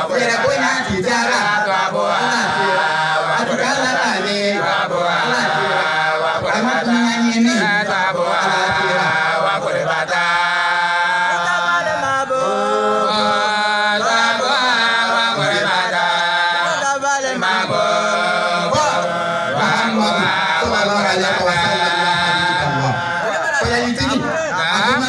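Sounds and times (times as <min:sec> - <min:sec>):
man chanting into microphone: 0:00.0 - 0:25.0.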